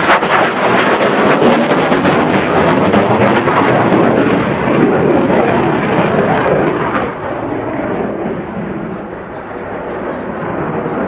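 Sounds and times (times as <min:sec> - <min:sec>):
jet engine roar in flight: 0:00.0 - 0:11.0.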